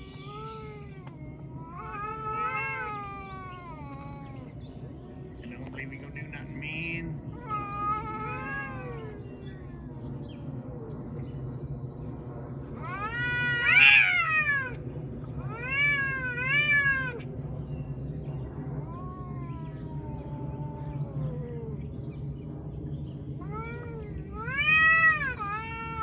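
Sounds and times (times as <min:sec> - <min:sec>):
cats yowling: 0:00.0 - 0:11.2, 0:12.7 - 0:17.4, 0:18.5 - 0:22.0, 0:23.3 - 0:26.0.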